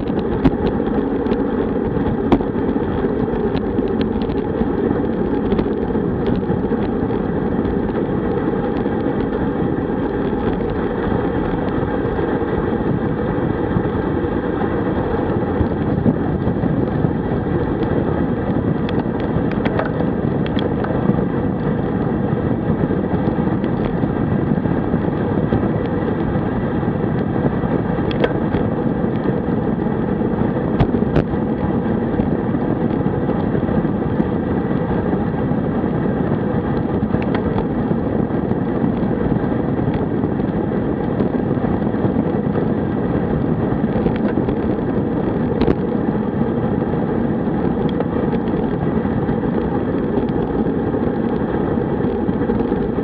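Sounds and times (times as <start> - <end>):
bike tyres rolling on asphalt: 0.0 - 53.0
wind rushing over microphone: 0.0 - 53.0.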